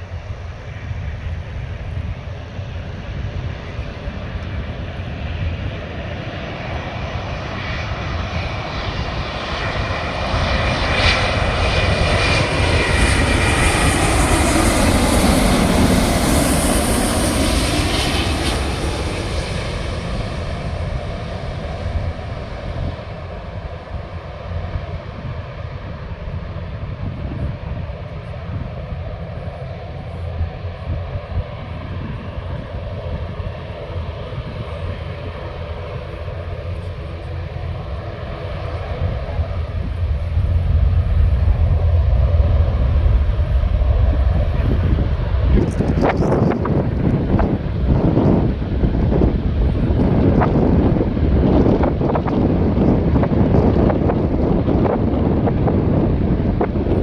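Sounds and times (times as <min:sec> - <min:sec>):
airplane engines passing by: 0:00.0 - 0:57.0.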